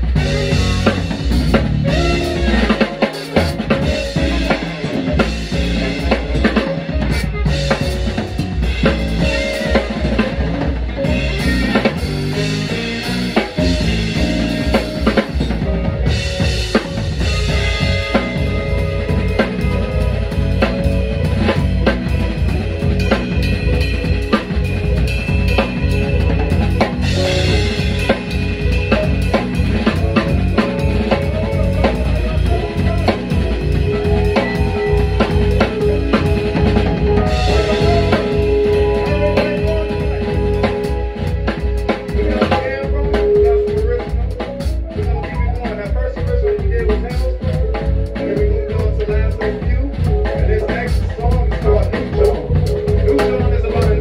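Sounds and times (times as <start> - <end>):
heavy bass line: 0.0 - 54.0
live band playing: 0.0 - 54.0.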